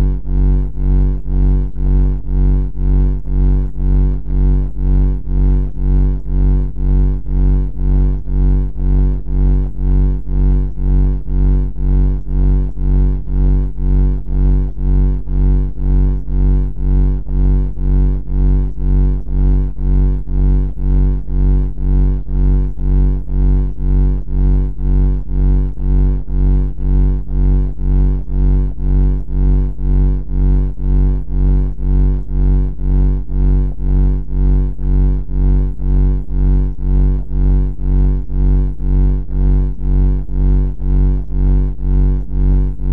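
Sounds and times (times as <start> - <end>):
low pulsing droning buzz: 0.0 - 42.9.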